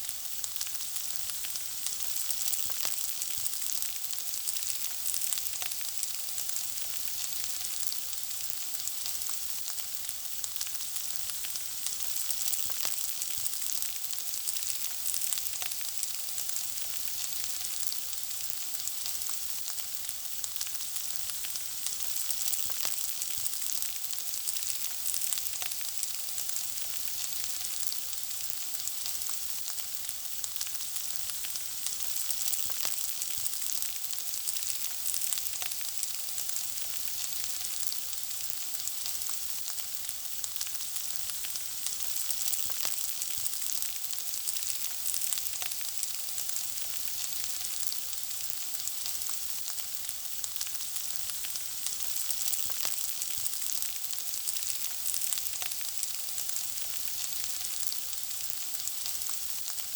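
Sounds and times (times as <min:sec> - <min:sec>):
food frying sizzle: 0:00.0 - 0:59.9
pops and crackles of frying: 0:00.0 - 0:59.9.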